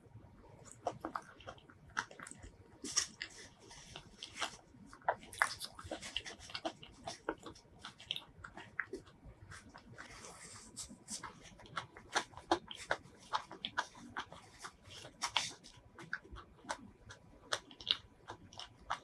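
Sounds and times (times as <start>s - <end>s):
wet mouth chewing: 0.5s - 19.0s
biting soft fruit: 0.6s - 19.0s.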